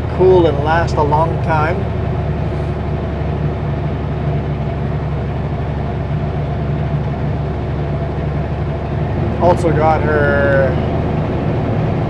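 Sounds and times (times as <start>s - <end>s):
road noise: 0.0s - 12.0s
truck diesel engine running: 0.0s - 12.0s.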